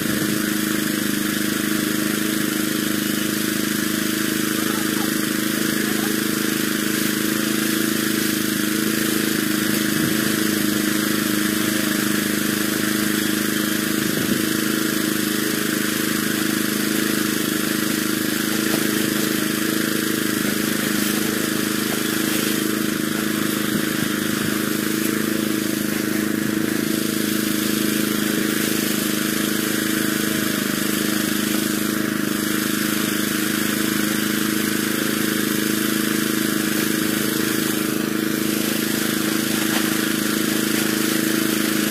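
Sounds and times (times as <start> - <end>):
small engine running steadily: 0.0 - 41.9.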